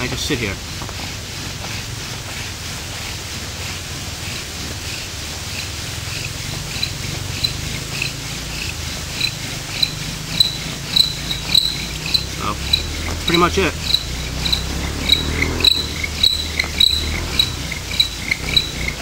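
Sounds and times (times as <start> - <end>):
bow drill spindle squeaking: 0.0 - 19.0.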